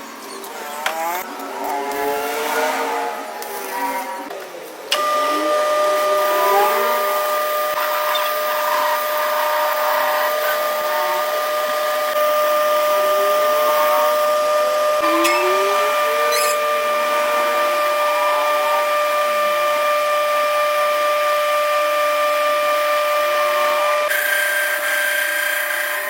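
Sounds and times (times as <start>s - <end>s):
motor whining: 0.4s - 26.0s.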